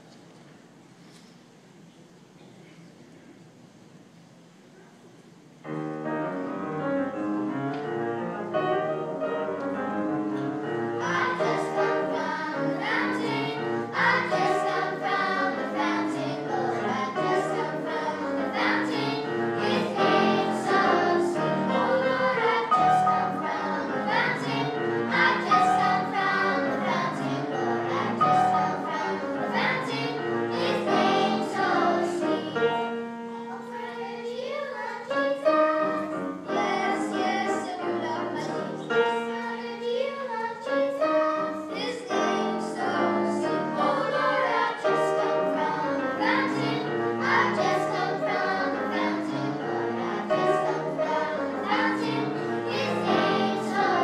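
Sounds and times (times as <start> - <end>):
children's choir singing: 6.5 - 54.0.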